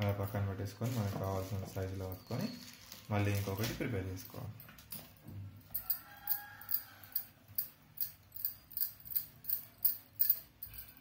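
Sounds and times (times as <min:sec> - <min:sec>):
bangles clinking: 0:00.0 - 0:11.0.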